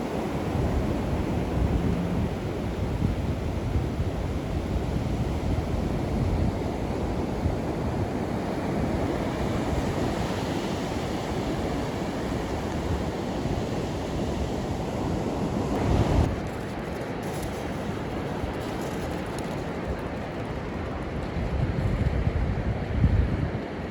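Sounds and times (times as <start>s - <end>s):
surf washing onto shore: 0.0s - 19.6s
wind rumbling on microphone: 0.0s - 23.9s.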